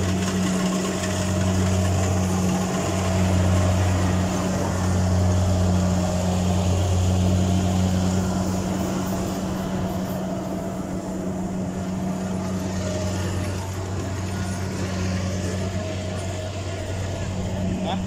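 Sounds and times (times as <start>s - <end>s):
combine harvester engine drone: 0.0s - 18.0s.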